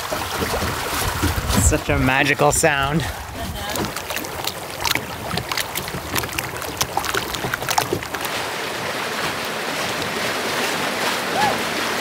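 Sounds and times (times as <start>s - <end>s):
water splashing along hull: 0.0s - 12.0s.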